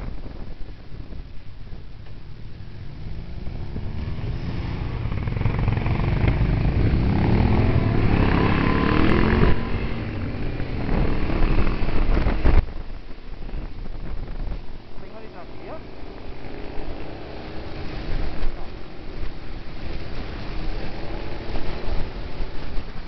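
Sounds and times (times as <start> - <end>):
motorcycle engine accelerating: 2.7 - 23.0.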